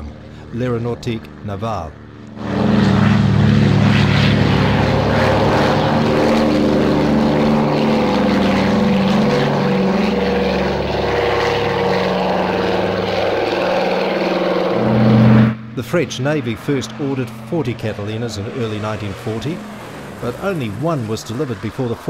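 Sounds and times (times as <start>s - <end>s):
aircraft propeller engines drone: 0.0s - 22.0s.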